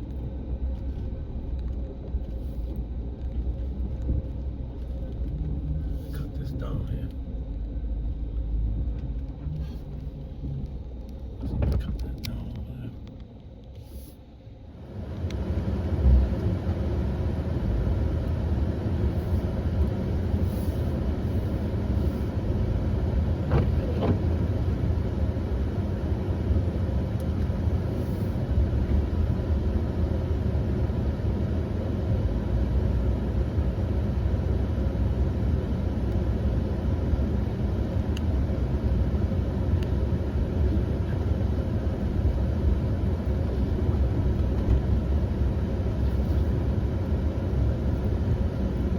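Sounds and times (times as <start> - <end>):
engine rumbling: 0.0 - 48.9.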